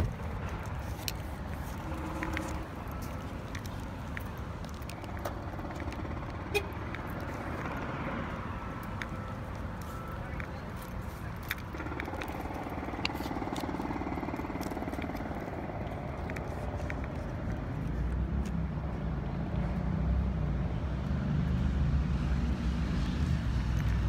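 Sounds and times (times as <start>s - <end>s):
vehicle engine running: 0.0s - 19.8s.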